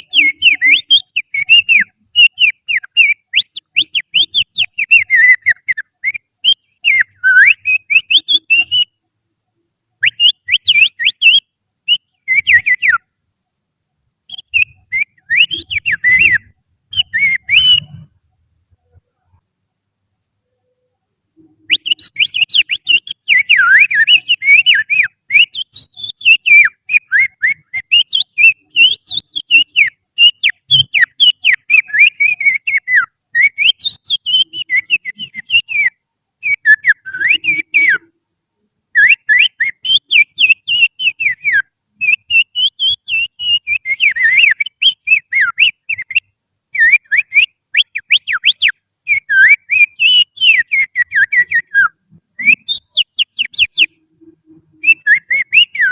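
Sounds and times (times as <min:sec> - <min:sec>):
finger whistling birdsong imitation: 0:00.0 - 0:09.0, 0:10.0 - 0:13.1, 0:14.3 - 0:18.1, 0:21.4 - 0:38.1, 0:39.0 - 0:55.9.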